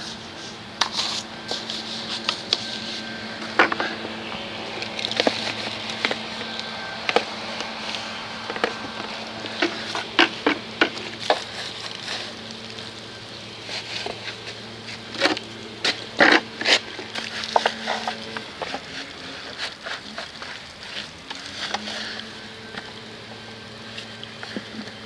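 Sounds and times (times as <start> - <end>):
scrubbing and rubbing: 0.0 - 22.3
steady low hum: 0.0 - 25.0.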